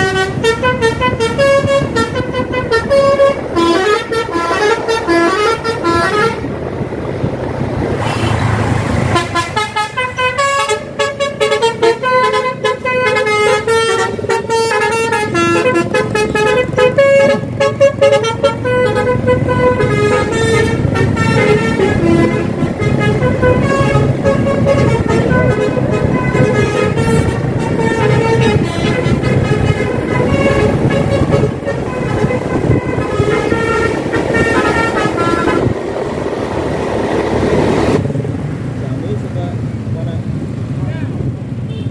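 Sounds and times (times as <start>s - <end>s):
bus horn playing a melody: 0.0s - 6.6s, 9.0s - 36.1s
engine and road noise: 0.0s - 41.9s.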